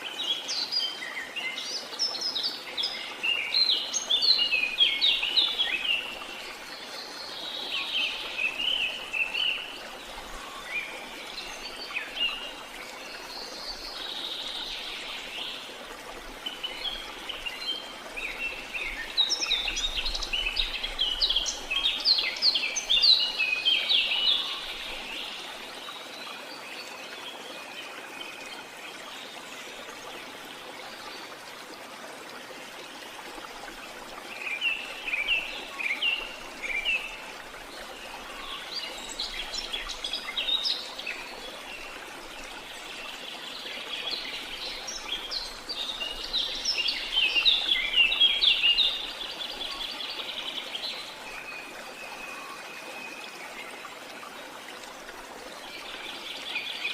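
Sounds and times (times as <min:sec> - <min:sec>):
running water: 0:00.0 - 0:56.9.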